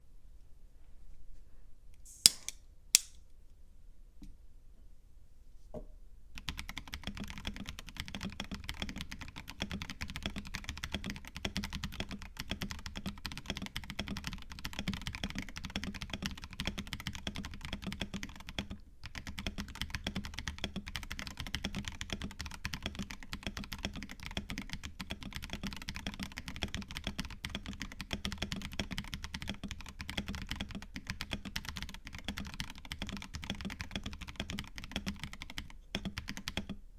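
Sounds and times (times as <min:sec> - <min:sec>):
fast mechanical keyboard typing: 0:06.4 - 0:36.8.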